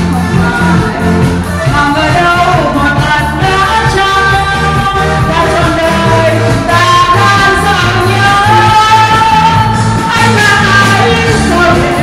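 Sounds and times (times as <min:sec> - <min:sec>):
loud dance music with singing: 0:00.0 - 0:12.0.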